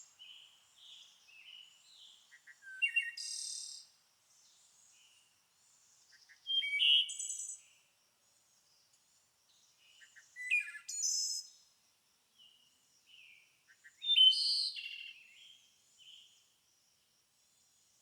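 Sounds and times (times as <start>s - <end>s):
songbird singing: 0.0s - 8.9s, 9.5s - 11.7s, 12.3s - 16.5s.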